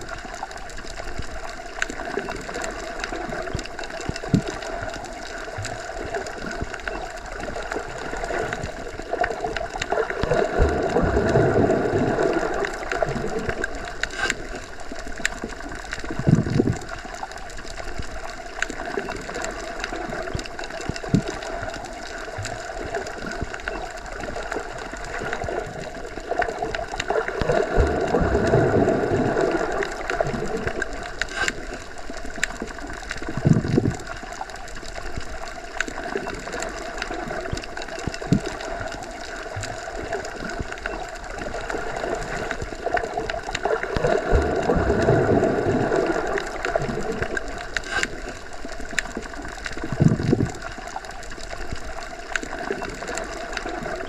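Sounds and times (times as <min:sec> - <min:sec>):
faint clicks: 0:00.0 - 0:45.2, 0:46.0 - 0:54.0
muffled underwater rush: 0:00.0 - 0:54.0.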